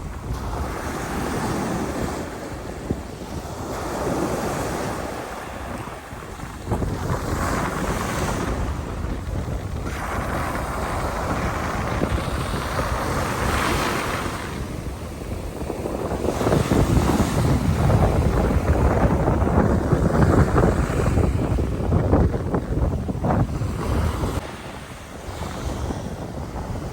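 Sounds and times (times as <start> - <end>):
sea waves breaking on shore: 0.0 - 26.9
wind buffeting microphone: 0.0 - 26.9.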